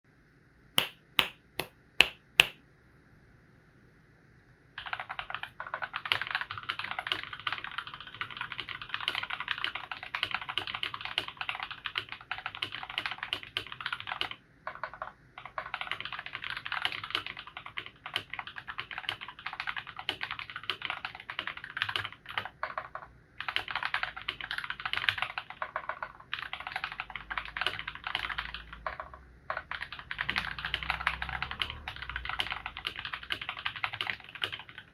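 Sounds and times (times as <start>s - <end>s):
fast mechanical keyboard typing: 4.8s - 34.9s.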